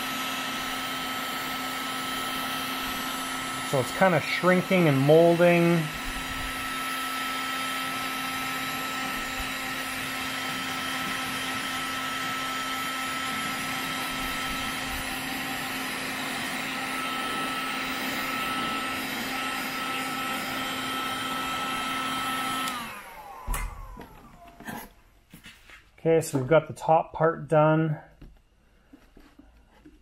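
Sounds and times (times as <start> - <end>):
heat gun fan humming and whining: 0.0 - 25.3.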